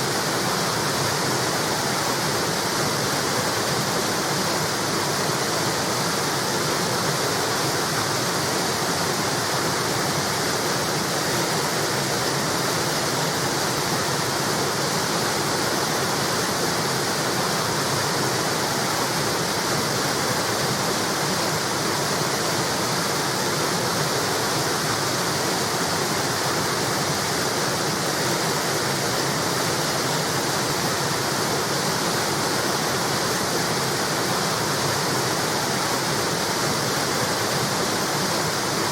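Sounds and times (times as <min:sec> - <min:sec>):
river water rushing over wall: 0:00.0 - 0:38.9.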